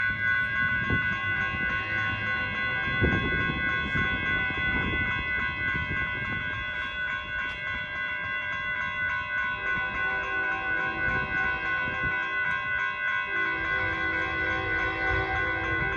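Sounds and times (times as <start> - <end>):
locomotive engine rumble: 0.0 - 15.9
steady high tones: 0.0 - 15.9.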